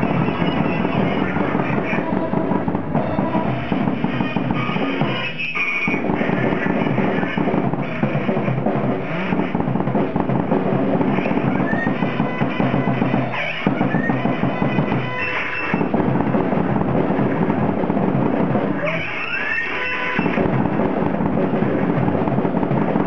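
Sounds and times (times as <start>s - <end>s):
drum kit kick and snare: 0.0s - 23.0s
live band playing: 0.0s - 23.0s.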